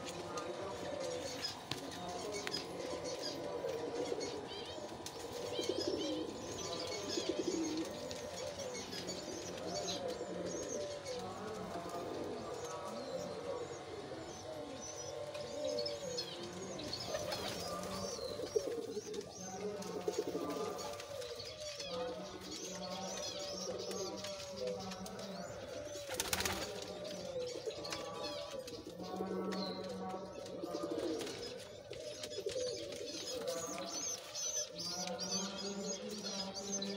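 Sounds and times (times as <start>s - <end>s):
pigeons cooing: 0.0s - 36.9s.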